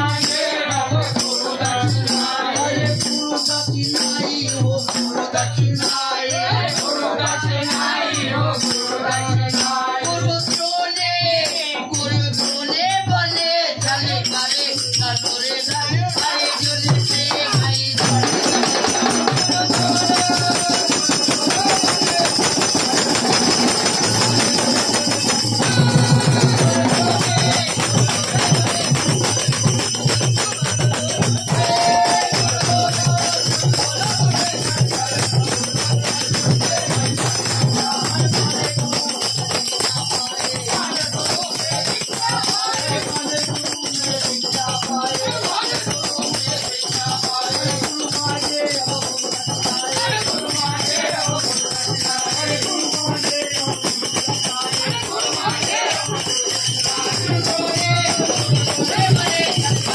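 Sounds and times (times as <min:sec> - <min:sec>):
barrel drum beat: 0:00.0 - 0:59.9
jingling hand percussion: 0:00.0 - 0:59.9
men singing devotional song: 0:00.0 - 0:59.9.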